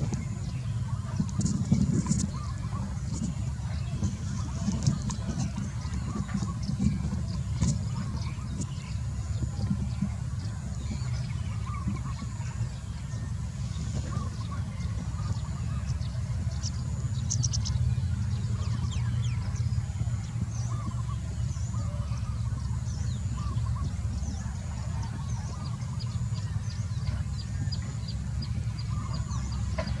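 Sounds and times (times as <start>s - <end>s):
birds chirping: 0.0s - 30.0s
steady low rumble: 0.0s - 30.0s.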